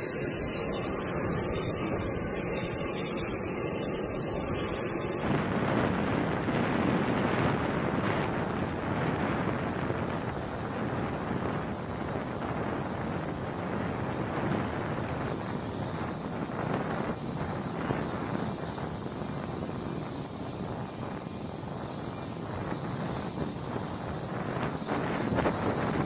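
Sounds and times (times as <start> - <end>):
helicopter turbine whine: 0.0 - 26.0.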